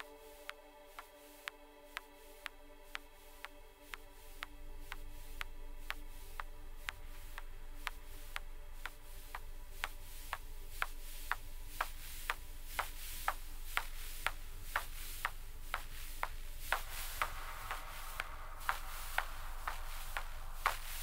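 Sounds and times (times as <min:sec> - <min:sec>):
clock ticking: 0:00.0 - 0:21.0
faint steady hum: 0:00.0 - 0:21.0
soft hiss: 0:00.0 - 0:21.0.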